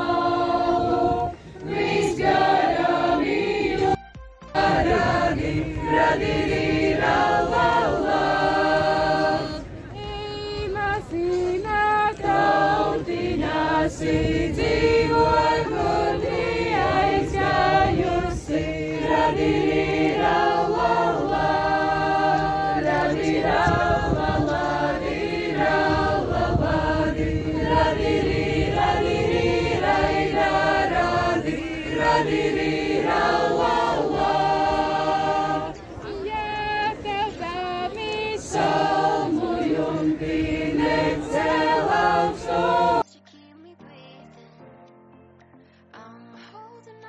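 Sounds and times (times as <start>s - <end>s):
group singing in harmony: 0.0s - 43.0s.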